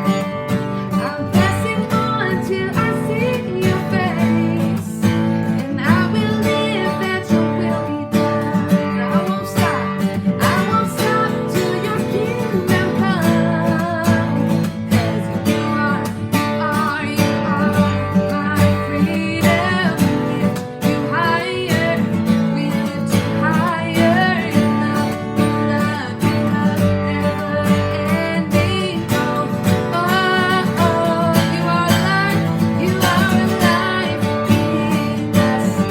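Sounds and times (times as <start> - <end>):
acoustic guitar strumming: 0.0 - 35.9
person singing: 0.0 - 35.9.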